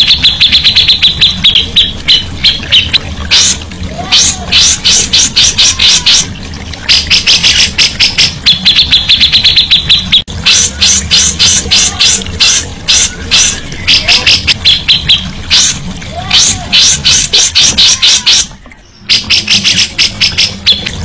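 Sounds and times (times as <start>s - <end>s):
bird trill: 0.0s - 21.0s.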